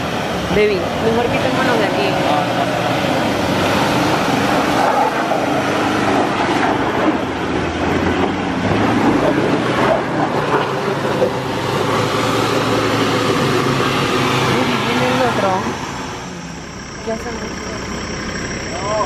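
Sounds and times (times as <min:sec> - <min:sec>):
truck engine running hard: 0:00.0 - 0:19.0.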